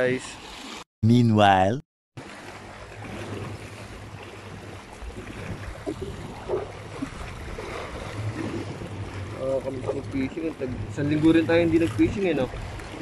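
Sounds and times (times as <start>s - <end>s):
wind and water rush: 0.0s - 0.8s, 2.2s - 13.0s.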